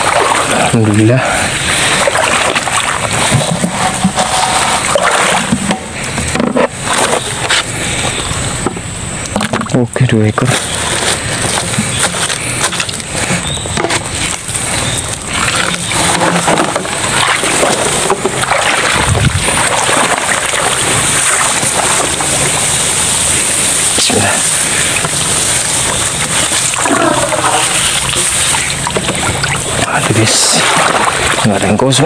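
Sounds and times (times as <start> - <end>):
footsteps splashing through wet grass: 0.0 - 5.8, 6.6 - 8.3, 9.5 - 31.8
steady high hiss: 3.0 - 32.0.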